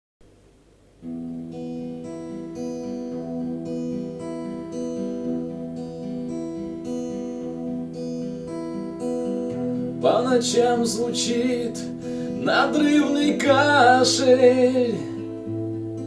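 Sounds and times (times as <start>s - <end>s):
slow guitar chords: 1.0s - 16.0s.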